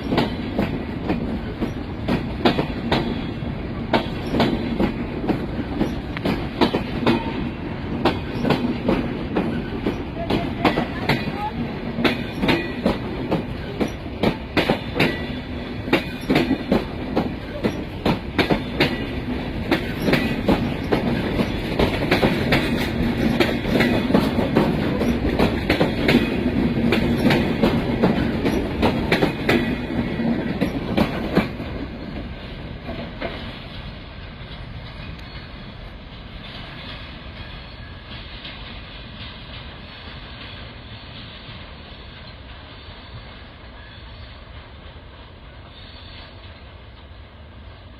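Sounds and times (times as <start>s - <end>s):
train rumble and hum: 0.0s - 47.9s
train wheels clicking on rails: 0.0s - 47.9s.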